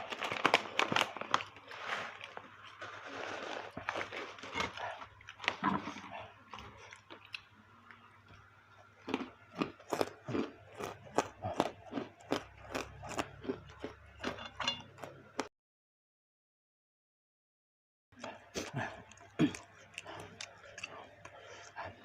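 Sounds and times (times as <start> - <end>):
crunchy chewing: 0.0 - 8.0, 9.0 - 15.5, 18.2 - 22.0.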